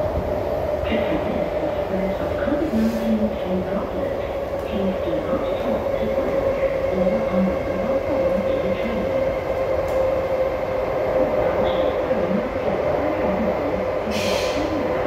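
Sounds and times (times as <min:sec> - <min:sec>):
metro train rumble: 0:00.0 - 0:15.0.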